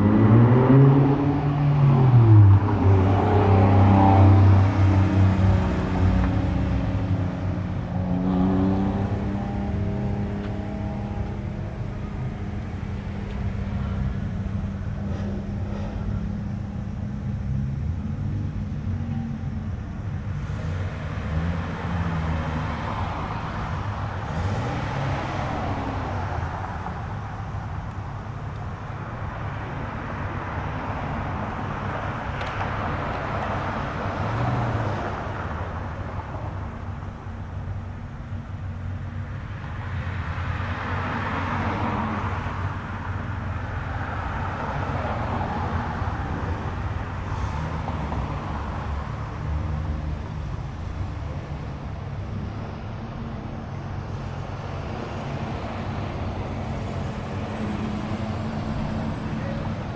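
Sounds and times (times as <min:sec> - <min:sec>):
cars driving slowly past: 0:00.0 - 0:59.9
rushing exhaust and tyre noise: 0:00.0 - 0:59.9.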